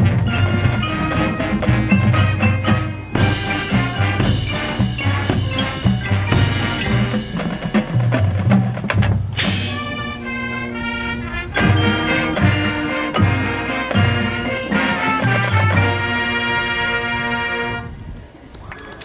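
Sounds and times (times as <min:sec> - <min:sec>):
marching band playing: 0:00.0 - 0:18.1.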